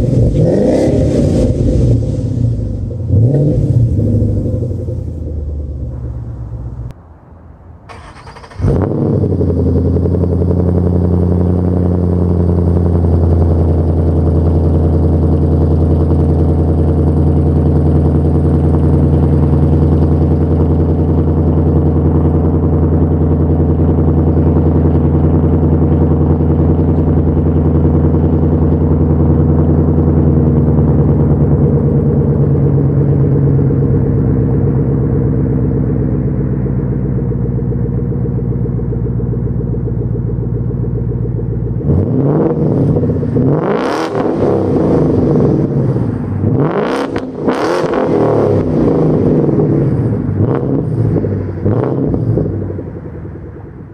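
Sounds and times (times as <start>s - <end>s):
car engine starting and idling: 0.0s - 53.9s.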